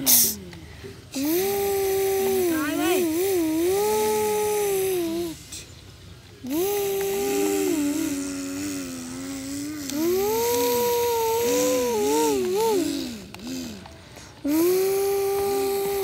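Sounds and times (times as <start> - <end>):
child imitating truck engine: 0.0 - 5.7, 6.4 - 16.0.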